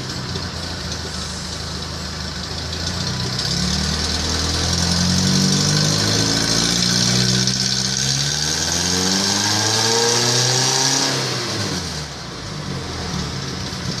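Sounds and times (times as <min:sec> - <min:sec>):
engine revving and idling: 0:00.0 - 0:14.0.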